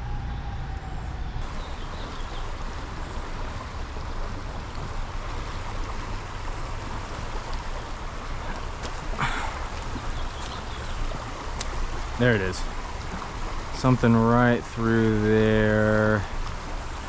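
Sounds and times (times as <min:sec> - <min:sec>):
river water running over rocks: 0:00.0 - 0:17.0.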